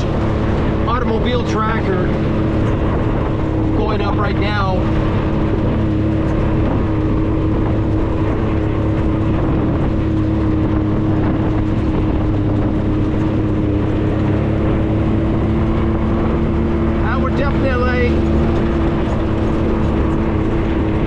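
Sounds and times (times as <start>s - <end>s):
off-road vehicle engine droning: 0.0s - 21.0s.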